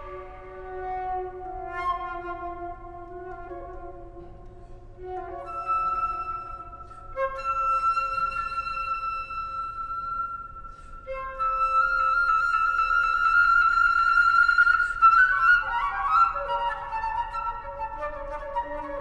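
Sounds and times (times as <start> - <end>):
flute long held notes: 0.0 - 19.0.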